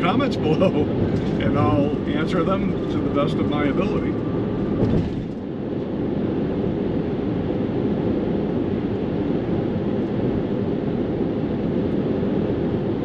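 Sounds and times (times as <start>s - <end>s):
road and engine noise in cabin: 0.0s - 13.0s.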